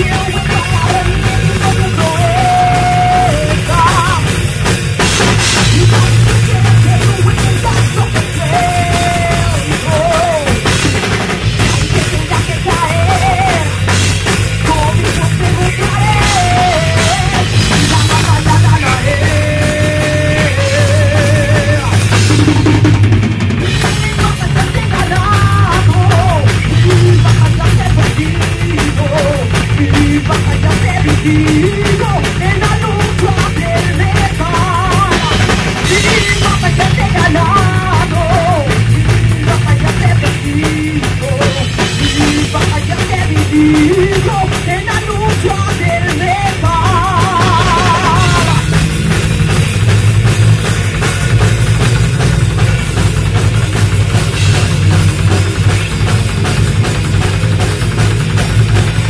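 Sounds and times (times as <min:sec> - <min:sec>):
busy drum kit: 0:00.0 - 0:59.0
loud rock music: 0:00.0 - 0:59.0
steady bass line: 0:00.0 - 0:59.0.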